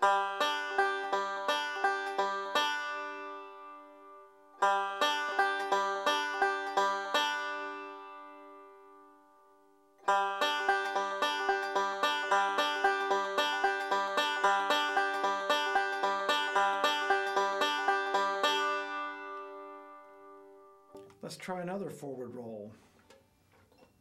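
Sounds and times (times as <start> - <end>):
banjo picking: 0.0 - 9.3, 10.0 - 23.6.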